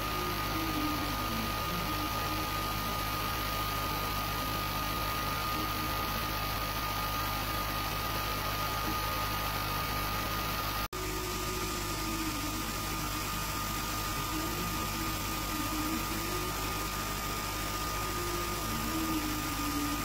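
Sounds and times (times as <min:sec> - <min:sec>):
low wavering tone: 0:00.0 - 0:07.8, 0:11.0 - 0:20.0
laser engraver hiss and hum: 0:00.0 - 0:20.0
thin high whine: 0:00.0 - 0:20.0.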